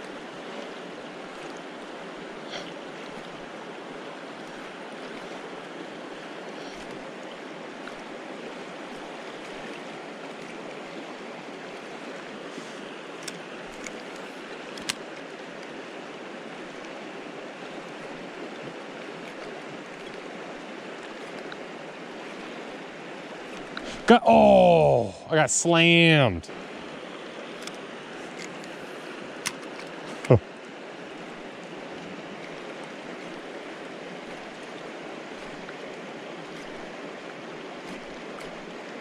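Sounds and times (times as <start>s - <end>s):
river water rushing: 0.1s - 39.0s.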